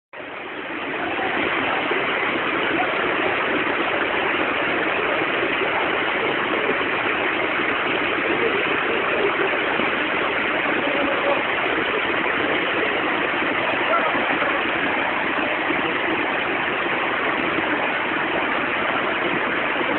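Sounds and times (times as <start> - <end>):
heavy rain: 0.2 - 19.9
running rainwater: 0.2 - 19.9.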